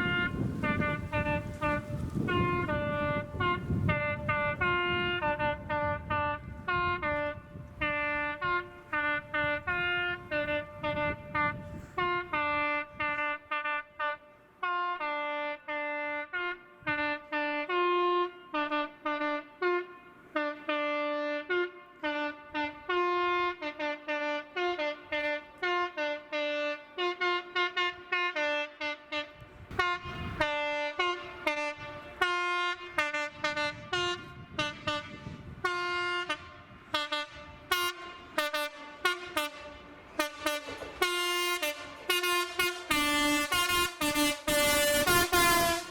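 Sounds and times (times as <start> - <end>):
train horn two-tone blasts: 0.0 - 45.9.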